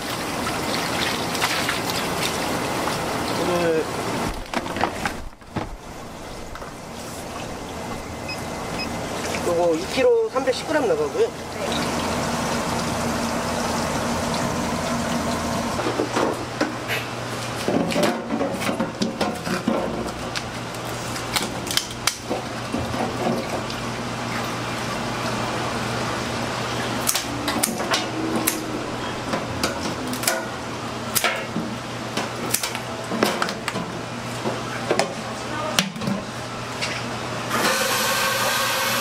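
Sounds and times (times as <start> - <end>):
rushing water kitchen noise: 0.0 - 39.0.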